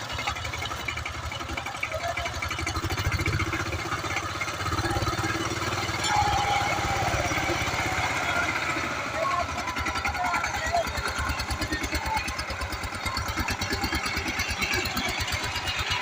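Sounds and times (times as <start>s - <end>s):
power tiller diesel engine: 0.0s - 16.0s.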